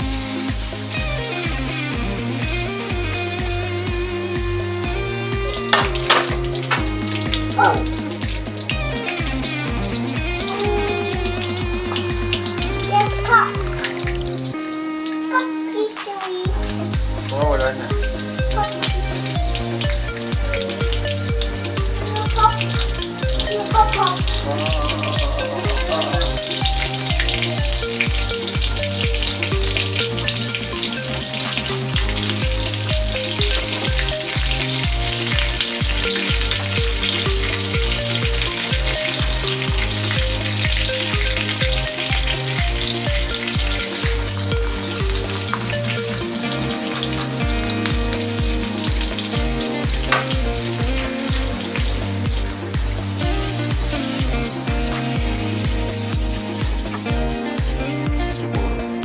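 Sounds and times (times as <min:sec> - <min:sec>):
background music with steady beat: 0:00.0 - 0:59.0
food sizzling in hot oil: 0:00.0 - 0:59.0.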